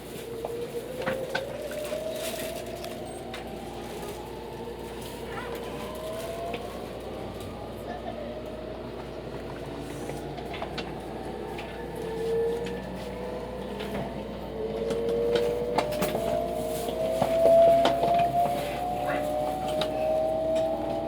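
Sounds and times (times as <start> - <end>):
electric train whine: 0.0 - 21.0.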